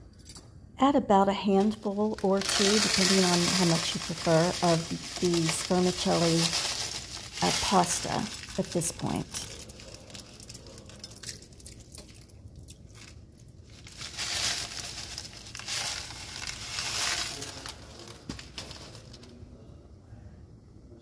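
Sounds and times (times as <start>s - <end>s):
dry pasta crackling: 1.6s - 19.4s.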